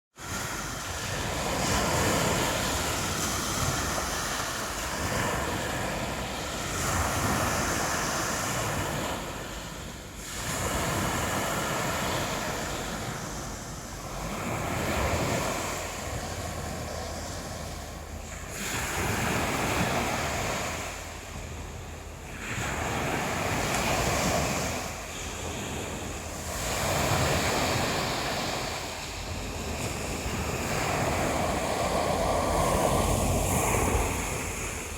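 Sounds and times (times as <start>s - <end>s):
waves washing in and back: 0.1s - 34.9s.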